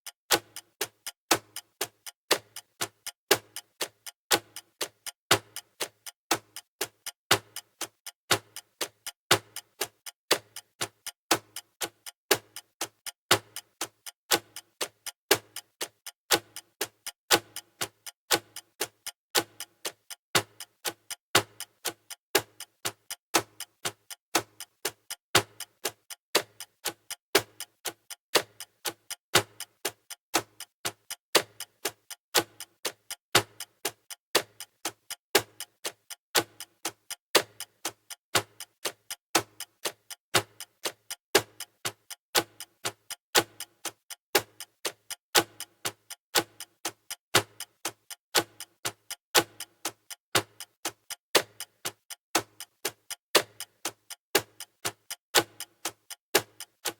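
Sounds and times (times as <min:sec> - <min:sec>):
clock ticking: 0:00.0 - 0:56.9.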